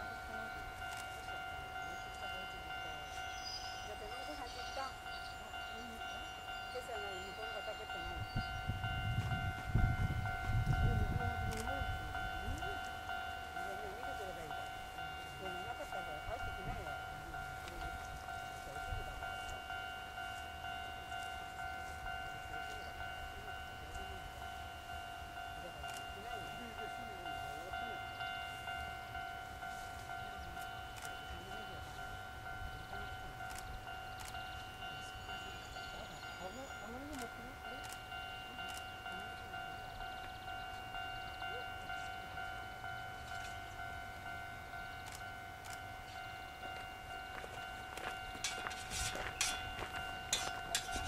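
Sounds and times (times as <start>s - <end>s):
electric train rumble: 0.0s - 51.0s
level crossing warning bell: 0.0s - 51.0s.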